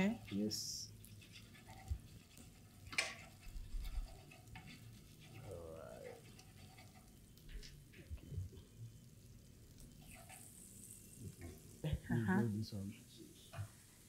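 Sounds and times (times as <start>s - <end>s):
quiet sizzle of frying: 0.0s - 14.0s.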